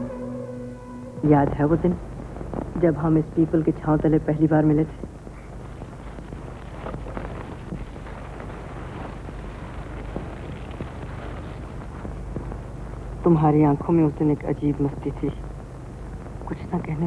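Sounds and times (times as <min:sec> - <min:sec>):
faint crackle: 0:00.0 - 0:17.0
film soundtrack hiss: 0:00.0 - 0:17.0
low hum: 0:00.0 - 0:17.0.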